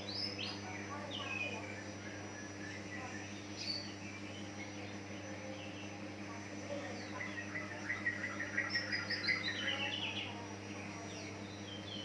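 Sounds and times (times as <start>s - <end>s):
bird singing chattering chirps: 0.0s - 12.0s
steady low hum: 0.0s - 12.0s.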